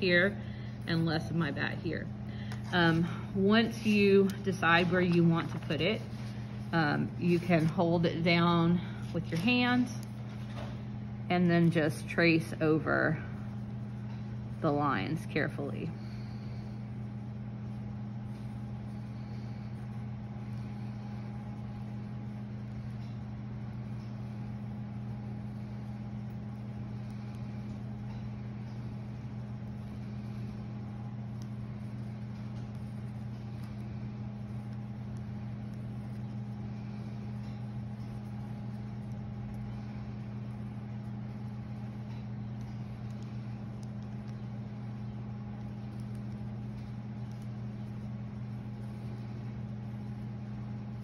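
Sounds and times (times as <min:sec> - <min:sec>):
low machinery hum: 0:00.0 - 0:51.0.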